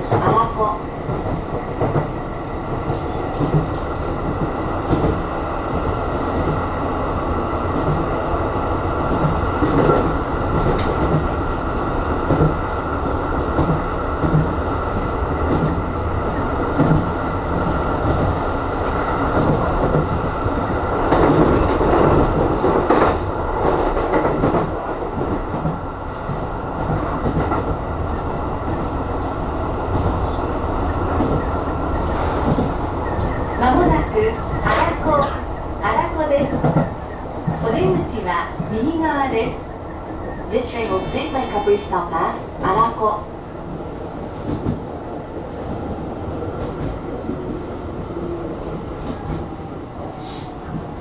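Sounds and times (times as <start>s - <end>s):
clickety-clack of train wheels: 0.0s - 51.0s
train wheels rumbling on rail: 0.0s - 51.0s.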